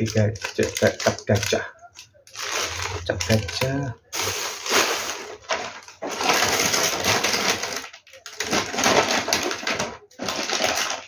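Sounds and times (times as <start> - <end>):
plastic wrappers crinkling: 0.0 - 11.0.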